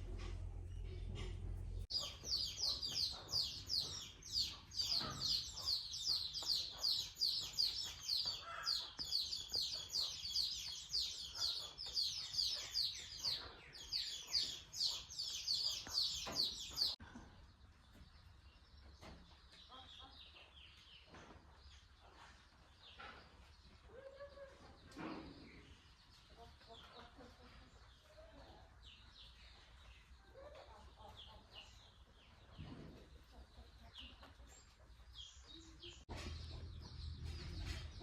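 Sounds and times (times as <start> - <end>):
bird chirping: 0.1 - 38.0.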